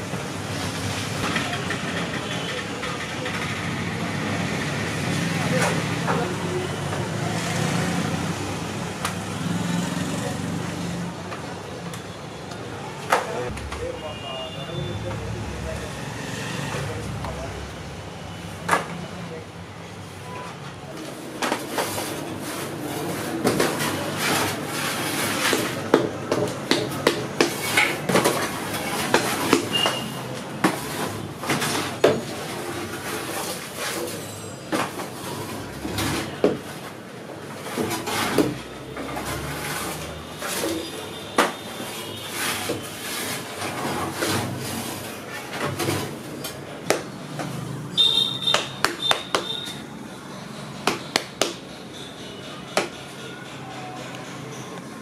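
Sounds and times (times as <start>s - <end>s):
steady background noise: 0.0s - 55.0s.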